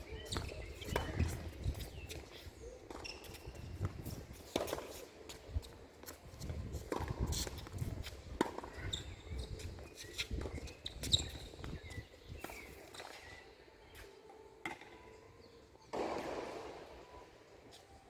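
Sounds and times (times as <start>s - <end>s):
footsteps on tennis court: 0.2s - 15.0s.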